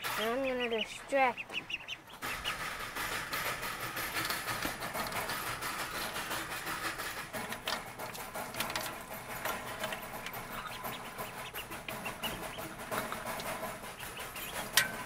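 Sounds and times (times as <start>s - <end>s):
ducklings peeping: 0.0s - 15.0s
fingers scraping wire mesh: 2.2s - 15.0s.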